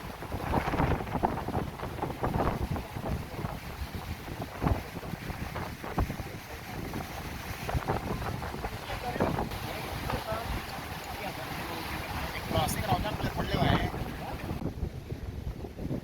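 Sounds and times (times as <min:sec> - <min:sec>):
heavy wind buffeting microphone: 0:00.0 - 0:16.0.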